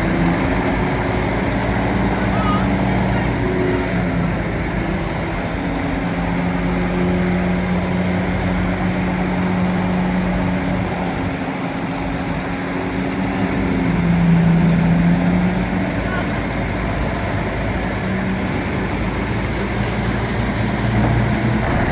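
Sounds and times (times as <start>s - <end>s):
bulldozer diesel engine running: 0.0s - 21.9s.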